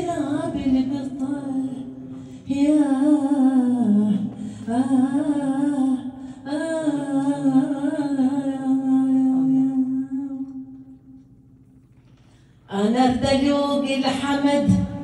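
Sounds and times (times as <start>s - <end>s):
woman singing unaccompanied: 0.0s - 10.8s, 12.7s - 15.0s.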